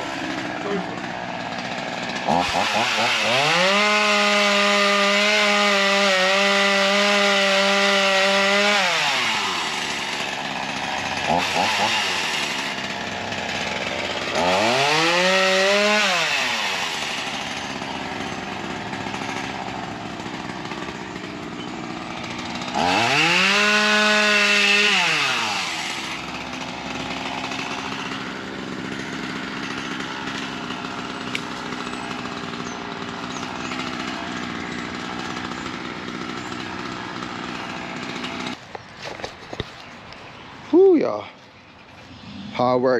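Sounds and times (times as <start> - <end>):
chainsaw revving and idling: 0.0 - 39.8, 41.0 - 42.9.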